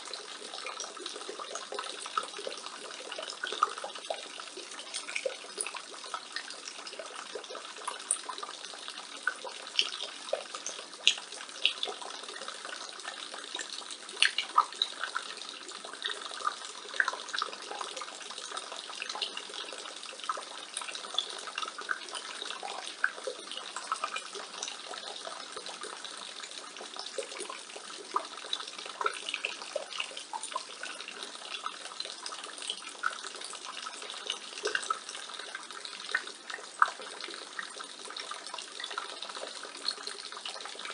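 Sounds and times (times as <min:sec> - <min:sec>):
rainwater pouring from gutter: 0:00.0 - 0:40.9.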